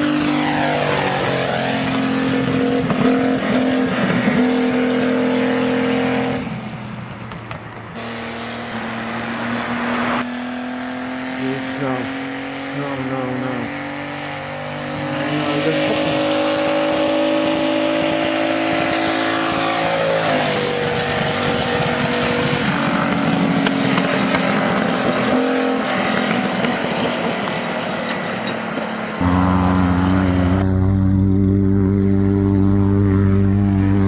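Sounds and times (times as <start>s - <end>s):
vehicle engine running hard: 0.0s - 34.0s.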